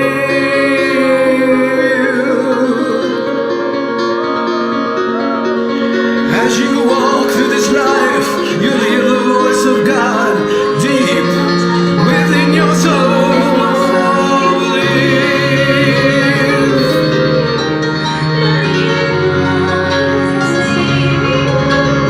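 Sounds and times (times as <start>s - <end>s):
choir singing: 0.0s - 22.0s
sustained accompaniment chords: 0.0s - 22.0s.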